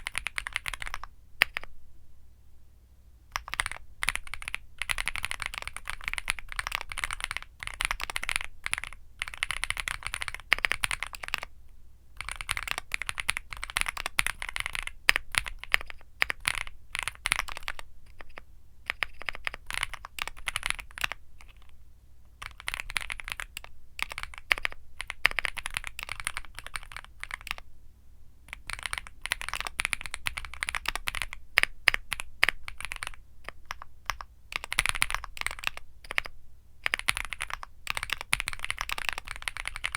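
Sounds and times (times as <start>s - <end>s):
mechanical keyboard typing: 0.0s - 1.7s, 3.4s - 11.5s, 12.2s - 21.7s, 22.4s - 27.6s, 28.5s - 39.9s.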